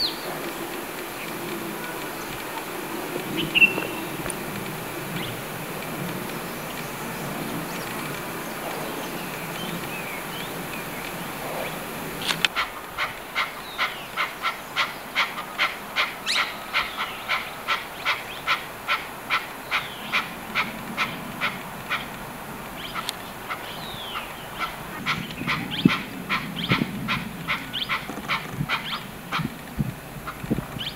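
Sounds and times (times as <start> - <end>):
partridge calling: 0.0 - 5.6, 6.3 - 22.2, 22.8 - 29.6.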